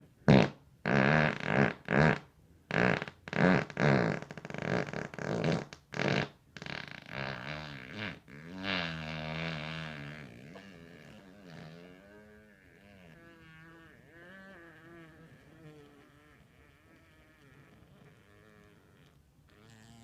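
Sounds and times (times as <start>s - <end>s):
fart sounds: 0.2s - 20.0s.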